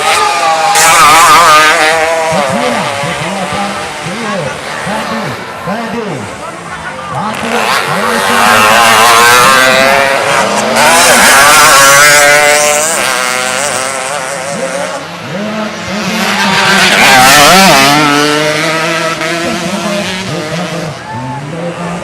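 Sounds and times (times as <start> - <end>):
motorcycle engines revving past: 0.0 - 22.0.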